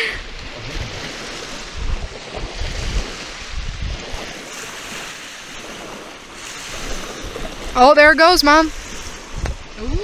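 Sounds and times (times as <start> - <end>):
small waves lapping on sand: 0.0 - 10.0
wind gusting on microphone: 0.0 - 10.0.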